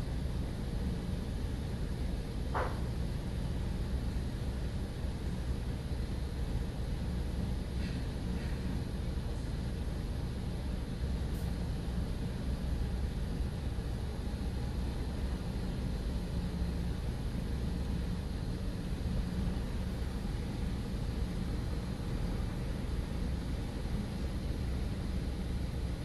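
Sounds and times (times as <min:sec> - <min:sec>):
car wash machinery rumbling: 0:00.0 - 0:26.0.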